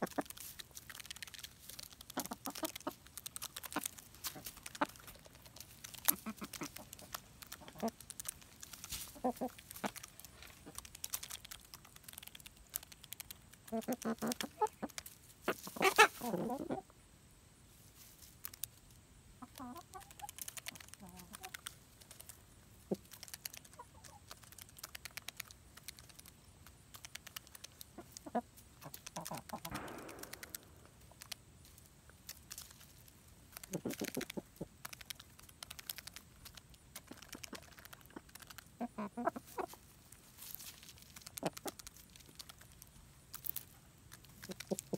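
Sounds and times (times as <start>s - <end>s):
beaks tapping seeds: 0.0s - 16.4s, 19.4s - 39.8s, 40.4s - 44.9s
chickens clucking: 0.0s - 17.0s, 19.3s - 31.4s, 32.2s - 44.9s.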